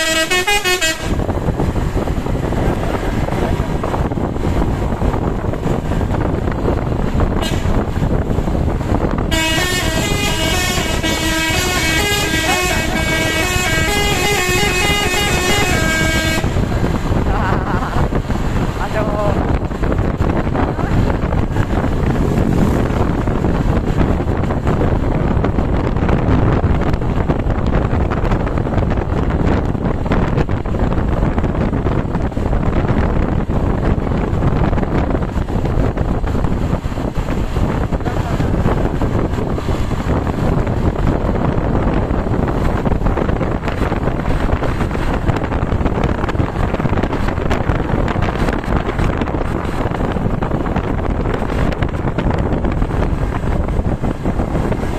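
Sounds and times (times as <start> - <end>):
rumble of road vehicles: 0.0 - 54.9
wind buffeting microphone: 0.0 - 54.9.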